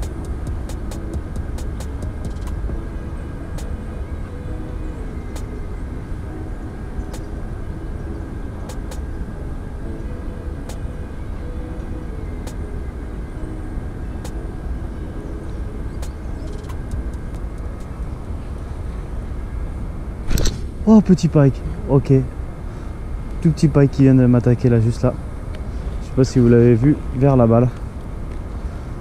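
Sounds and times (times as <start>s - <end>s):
low rumble of road traffic: 0.0s - 29.0s.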